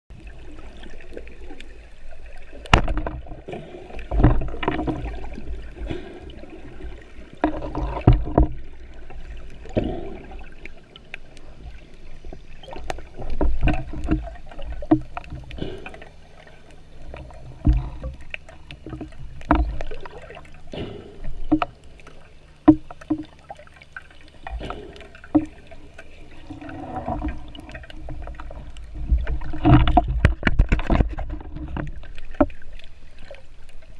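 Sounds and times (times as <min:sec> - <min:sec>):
water sloshing and gurgling: 0:00.1 - 0:33.9.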